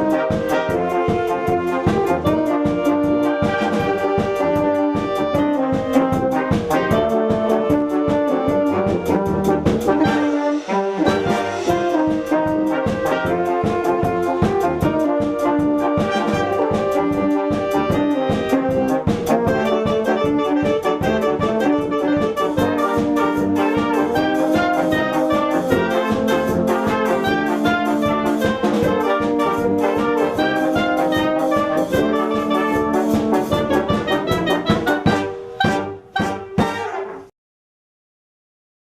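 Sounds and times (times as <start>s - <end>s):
percussion beat: 0.0s - 37.0s
brass band playing: 0.0s - 37.3s.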